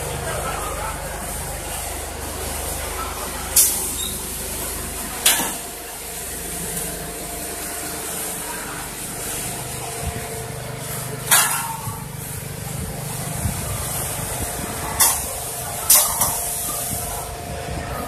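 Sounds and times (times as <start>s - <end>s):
quilting machine humming: 0.0s - 18.0s.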